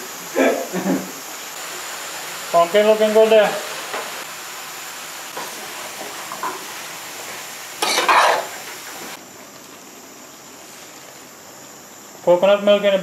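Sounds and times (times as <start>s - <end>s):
pumpkin sizzling in a pot: 0.0s - 13.0s.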